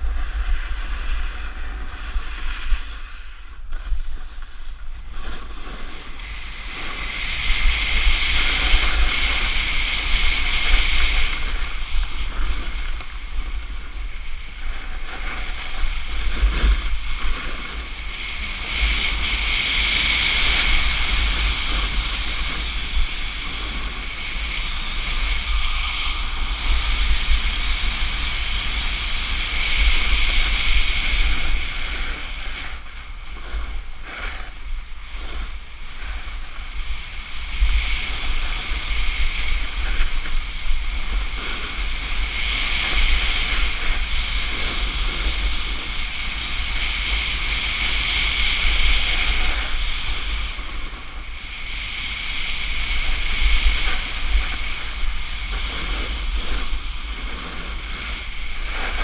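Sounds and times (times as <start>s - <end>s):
snowboard scraping on snow: 0.0s - 59.0s
wind rumble on microphone: 0.0s - 59.0s.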